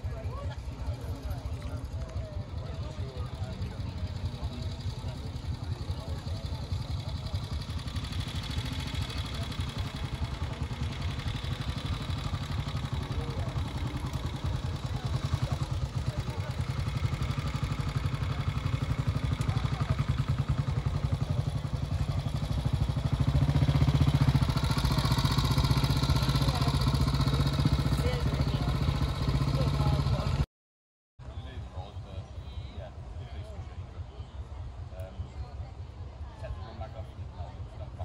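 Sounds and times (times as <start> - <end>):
engine running with low pulse: 0.0 - 30.5.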